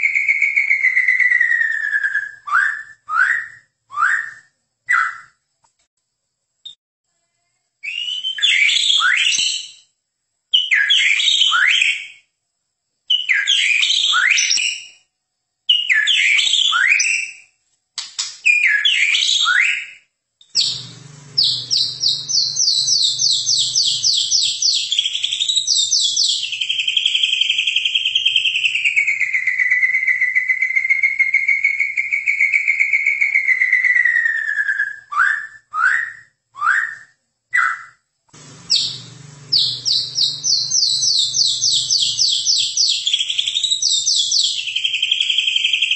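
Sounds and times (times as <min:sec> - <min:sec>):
bird singing: 0:00.0 - 0:05.4, 0:07.8 - 0:09.9, 0:10.5 - 0:12.3, 0:13.1 - 0:15.1, 0:15.7 - 0:17.5, 0:18.4 - 0:38.0, 0:38.6 - 0:45.9.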